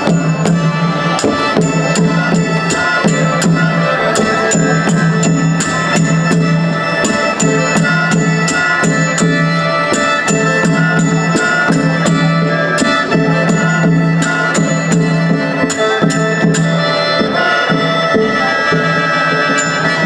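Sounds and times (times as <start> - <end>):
steady drum beat: 0.0 - 20.0
sustained instrumental tones: 0.0 - 20.0.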